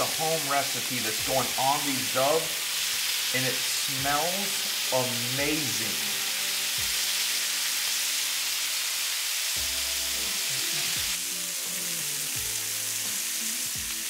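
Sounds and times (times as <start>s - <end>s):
background music: 0.0s - 14.0s
meat frying in oil: 0.0s - 14.0s.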